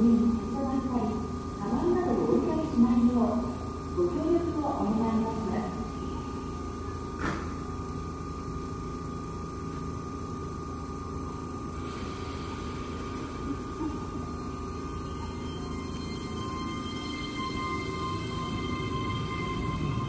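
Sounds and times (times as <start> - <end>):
electric train equipment humming: 0.0 - 20.0
steady high whine: 0.0 - 20.0.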